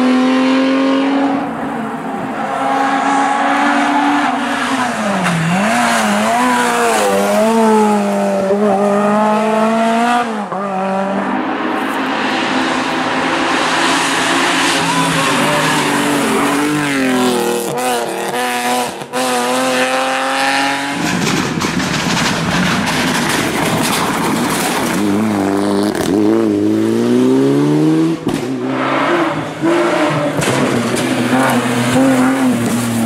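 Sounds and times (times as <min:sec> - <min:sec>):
rally car engines at full throttle: 0:00.0 - 0:33.0.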